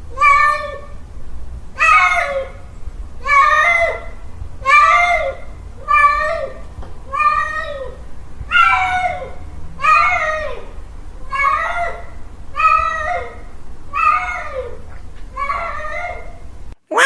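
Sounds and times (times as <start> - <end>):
tomcat yowling: 0.1 - 1.0, 1.8 - 2.6, 3.2 - 17.0.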